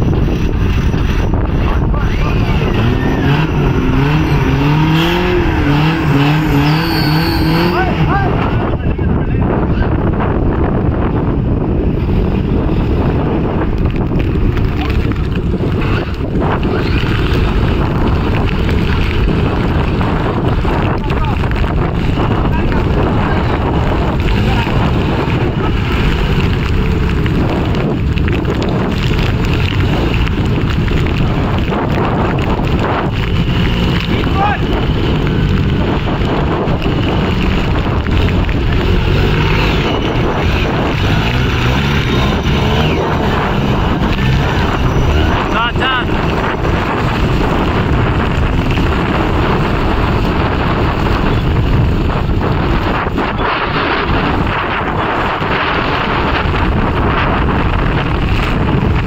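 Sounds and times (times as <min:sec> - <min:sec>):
buggy engine under load: 0:00.0 - 0:59.0
wind buffeting microphone: 0:00.0 - 0:59.0
tyres churning through mud: 0:00.2 - 0:08.9, 0:11.4 - 0:59.0.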